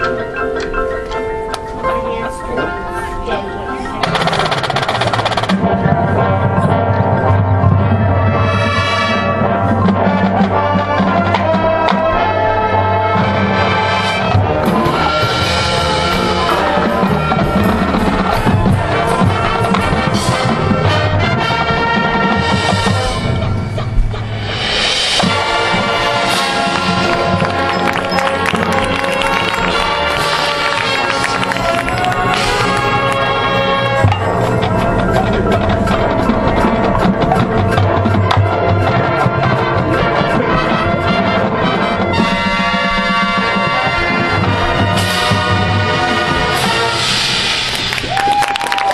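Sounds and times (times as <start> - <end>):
marching drums and percussion: 0.0 - 48.9
brass ensemble playing: 2.0 - 48.8.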